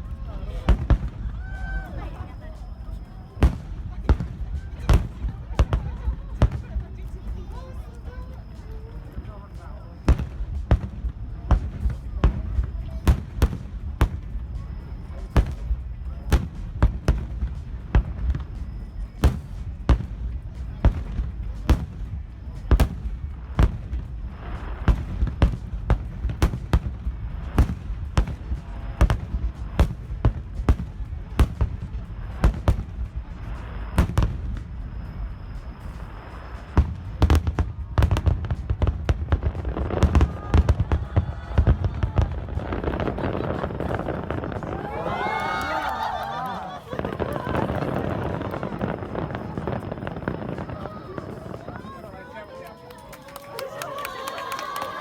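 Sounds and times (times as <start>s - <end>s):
continuous low rumble: 0.0s - 55.0s
fireworks bangs: 0.0s - 55.0s.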